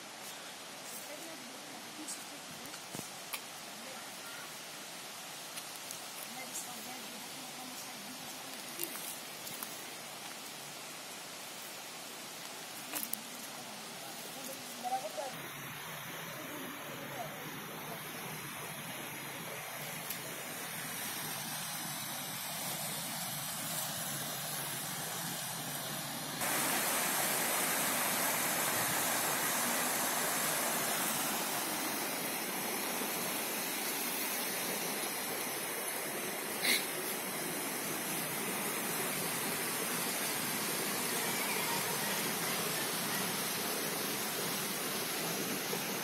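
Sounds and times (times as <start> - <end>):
stream rushing over rocks: 0.0 - 46.0.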